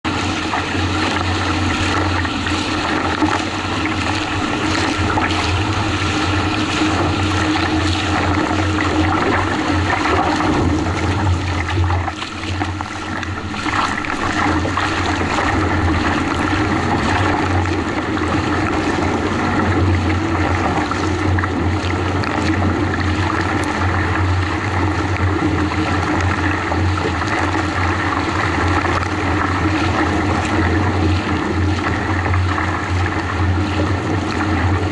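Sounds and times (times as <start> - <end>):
low rumble: 0.0 - 34.9
water rushing around kayak: 0.0 - 34.9.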